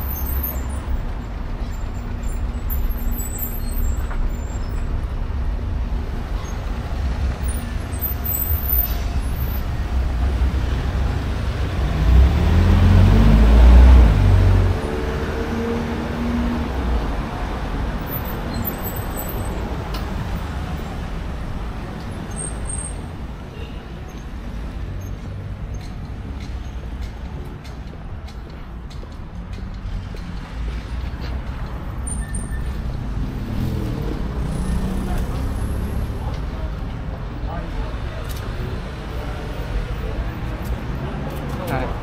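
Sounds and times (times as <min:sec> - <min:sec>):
street traffic rumbling: 0:00.0 - 0:42.0.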